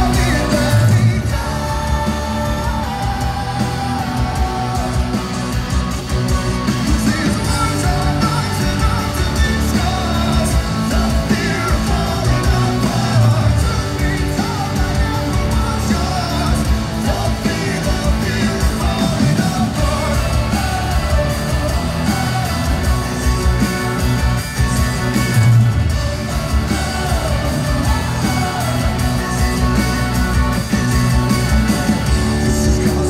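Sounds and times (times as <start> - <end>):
lead vocal singing: 0.0 - 33.0
live rock band: 0.0 - 33.0.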